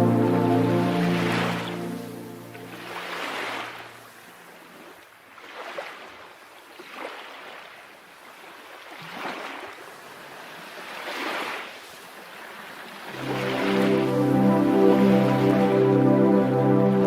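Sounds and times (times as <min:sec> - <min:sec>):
small waves breaking: 0:00.9 - 0:16.0.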